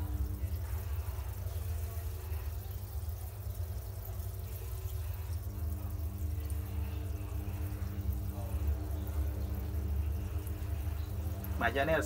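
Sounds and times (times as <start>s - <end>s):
faint water sounds: 0.0s - 12.0s
small motor humming: 0.0s - 12.0s.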